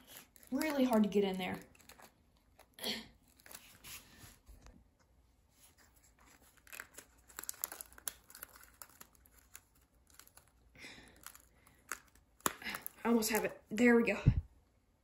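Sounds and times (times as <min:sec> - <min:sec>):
crinkling and rustling with clicks: 0:00.0 - 0:14.0.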